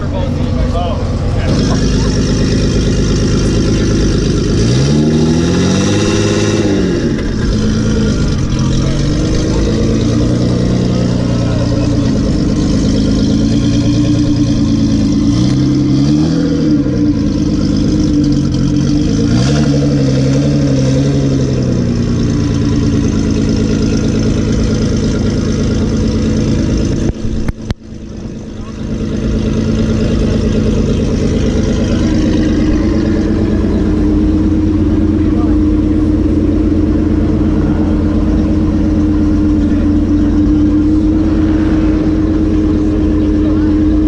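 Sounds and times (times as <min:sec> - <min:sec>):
car engine idling: 0:00.0 - 0:44.0
engine throttle blips: 0:00.0 - 0:44.0.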